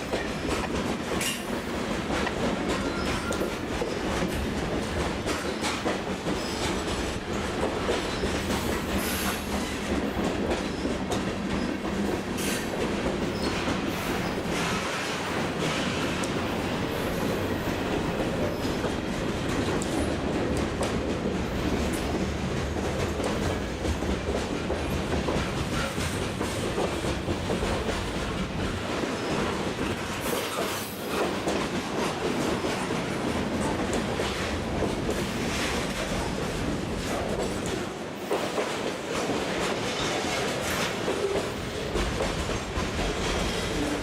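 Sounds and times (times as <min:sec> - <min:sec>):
freight train rolling past: 0:00.0 - 0:44.0
wheels clicking over rail joints: 0:00.0 - 0:44.0.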